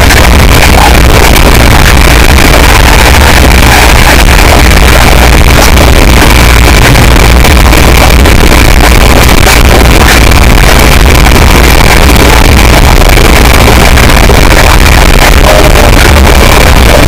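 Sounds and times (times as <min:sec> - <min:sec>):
distorted low rumble: 0:00.0 - 0:17.0
distorted music: 0:00.0 - 0:17.0.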